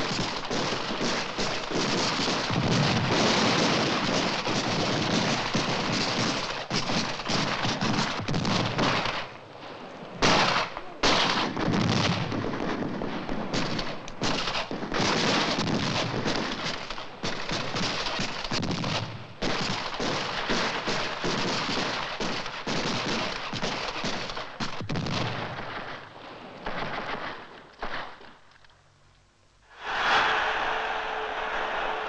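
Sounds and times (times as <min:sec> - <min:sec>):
gunfire-like bangs and crackles: 0:00.0 - 0:28.4.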